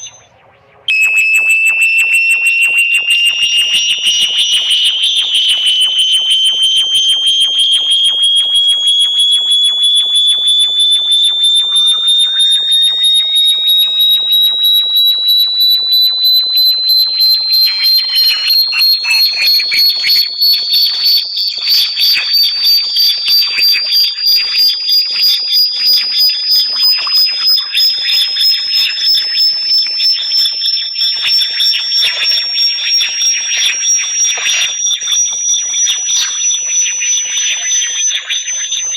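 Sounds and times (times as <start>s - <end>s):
pulsing high-pitched electronic tone: 0.0s - 38.9s.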